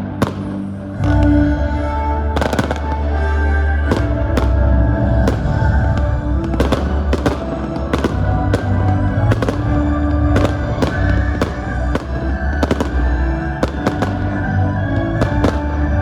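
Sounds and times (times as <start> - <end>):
fireworks bursting with sharp bangs: 0.0 - 1.4, 2.4 - 16.0
loud music with deep bass: 0.0 - 16.0.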